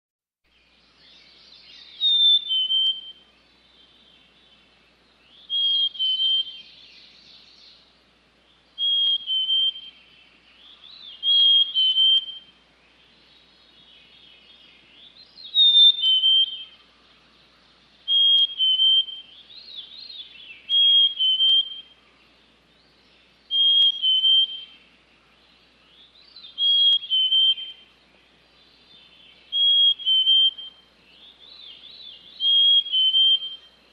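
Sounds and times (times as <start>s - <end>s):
soft bird chirps: 0.5s - 33.9s
songbird whistled song: 0.5s - 33.9s.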